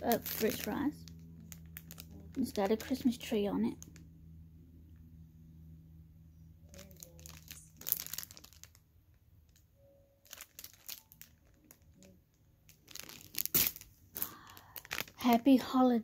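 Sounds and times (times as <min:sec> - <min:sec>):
plastic packaging crinkling: 0:00.0 - 0:04.2, 0:06.7 - 0:15.7.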